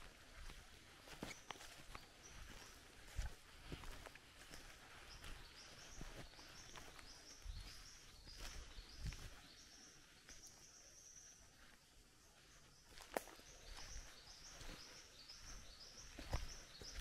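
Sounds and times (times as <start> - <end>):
soft footsteps on bush track: 0.0 - 17.0.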